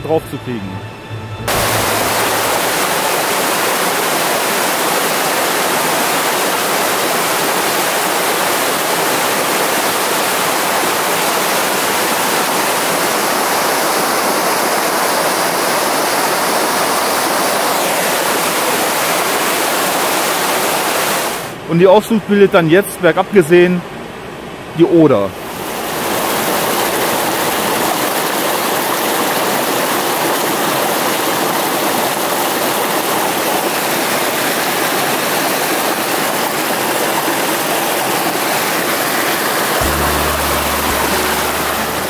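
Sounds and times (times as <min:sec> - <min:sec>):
waterfall rushing over rocks: 0:01.5 - 0:21.6, 0:25.4 - 0:42.0.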